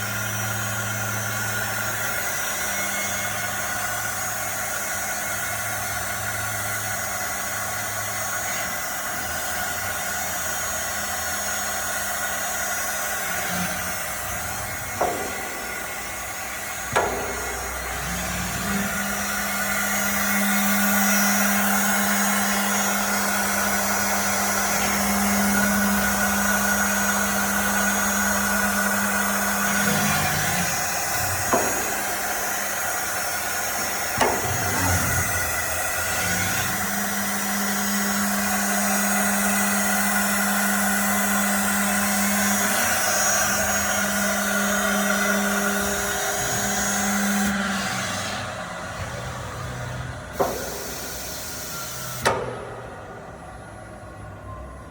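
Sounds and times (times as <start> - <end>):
router motor humming: 0.0 - 53.0.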